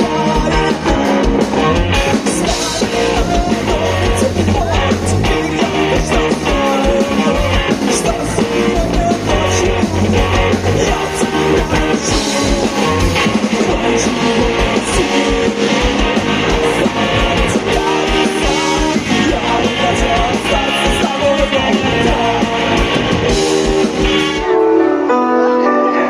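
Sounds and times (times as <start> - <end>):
live rap-rock band playing: 0.0 - 26.0.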